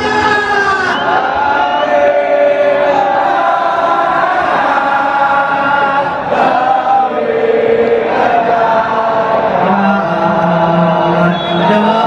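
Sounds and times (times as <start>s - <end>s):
crowd singing a chant: 0.9s - 12.0s.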